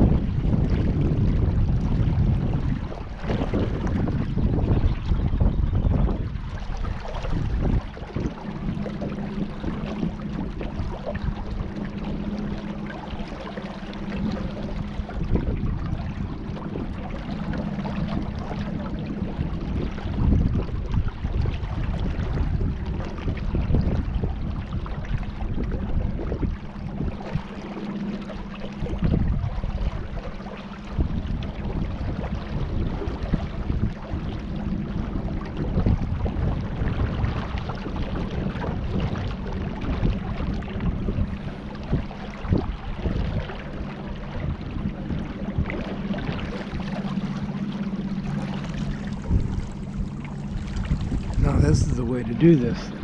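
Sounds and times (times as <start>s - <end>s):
steady low hum: 0.0s - 53.0s
water noise from kayak: 0.0s - 53.0s
wind rumbling on microphone: 0.0s - 53.0s.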